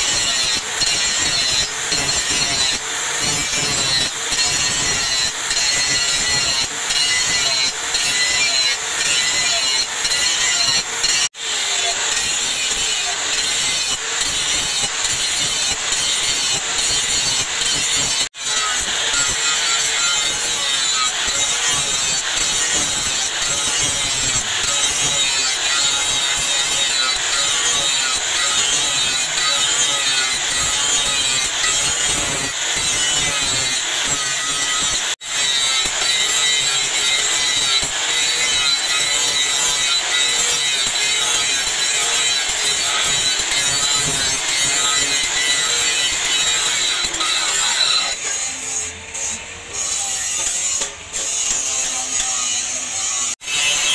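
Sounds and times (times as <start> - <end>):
angle grinder grinding metal: 0.0 - 53.9.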